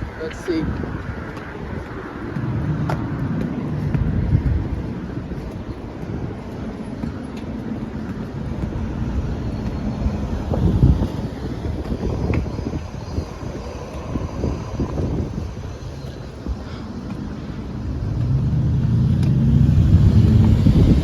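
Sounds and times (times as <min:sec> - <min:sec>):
road and engine noise: 0:00.0 - 0:21.0
wind noise: 0:00.0 - 0:21.0.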